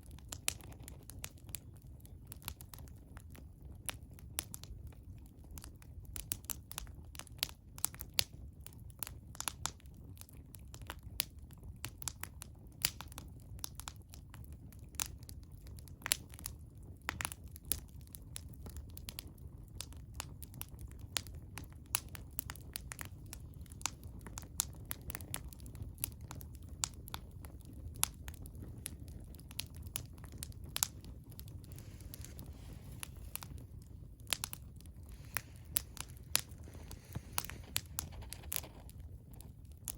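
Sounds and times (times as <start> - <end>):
bonfire pops and snaps: 0.0 - 39.9
low fire rumble: 0.0 - 39.9.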